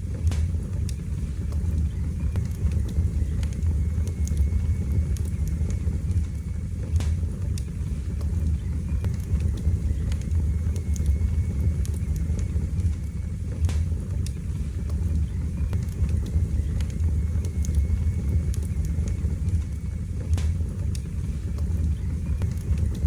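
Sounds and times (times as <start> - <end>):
fire crackling and popping: 0.0 - 23.0
wood fire burning: 0.0 - 23.0.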